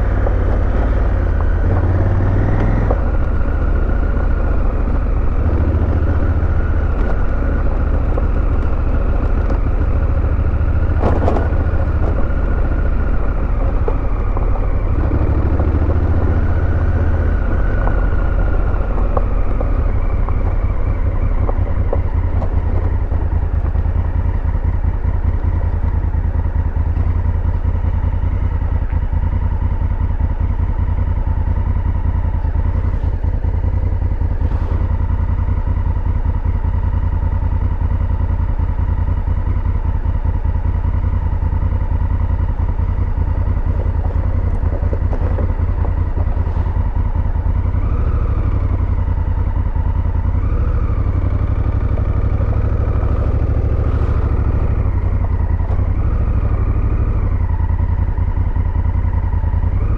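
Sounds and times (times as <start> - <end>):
motorcycle engine running at low revs: 0.0 - 59.9.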